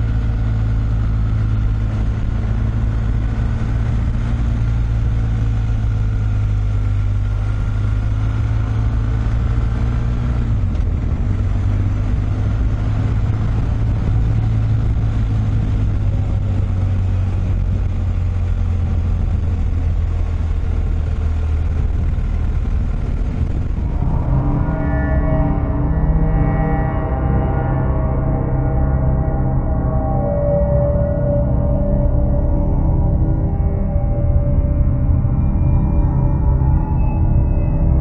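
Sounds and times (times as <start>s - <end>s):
road noise: 0.0s - 38.0s
vehicle engine running: 0.0s - 38.0s.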